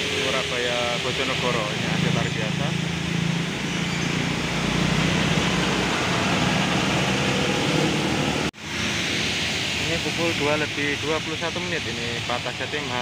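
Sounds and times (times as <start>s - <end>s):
heavy rain and wet tyres hiss: 0.0s - 3.7s, 4.4s - 13.0s.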